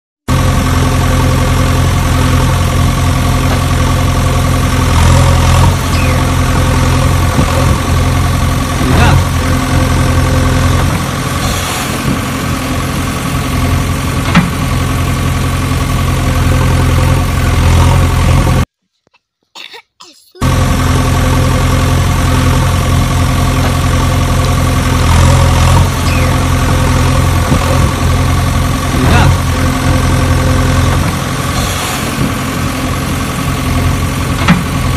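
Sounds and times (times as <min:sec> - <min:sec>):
engine idling: 0:00.3 - 0:18.7, 0:20.4 - 0:34.9.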